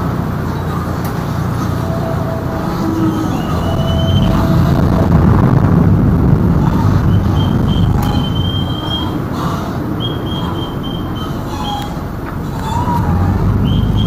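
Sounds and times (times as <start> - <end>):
boat engine drone: 0.0 - 14.0
thin high whine: 0.0 - 14.0
water rushing: 0.0 - 14.0
wind: 0.0 - 14.0.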